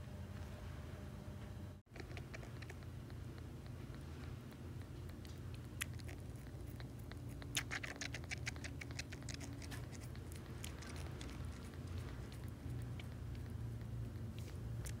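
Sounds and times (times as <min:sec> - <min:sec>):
kitten suckling bottle: 0:01.9 - 0:15.0.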